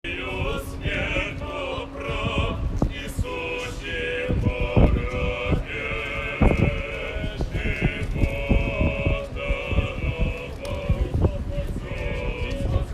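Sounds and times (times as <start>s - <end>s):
heavy low thumps and rumble: 0.1s - 12.9s
men singing a slow chant: 0.1s - 12.9s.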